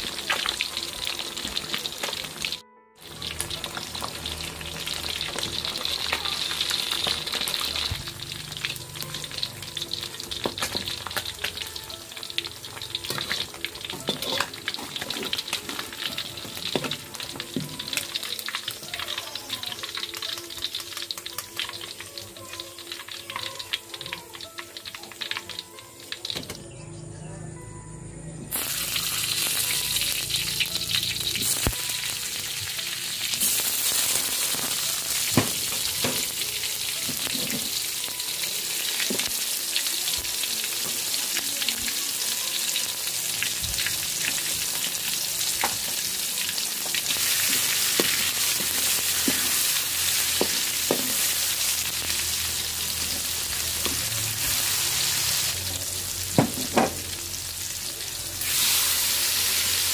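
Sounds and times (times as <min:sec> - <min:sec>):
food sizzling in hot oil: 0:00.0 - 0:26.6, 0:28.5 - 0:59.9.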